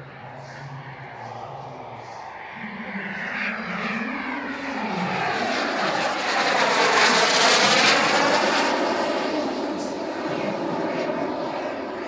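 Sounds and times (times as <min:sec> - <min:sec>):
model jet engine flying past: 0:00.0 - 0:12.0.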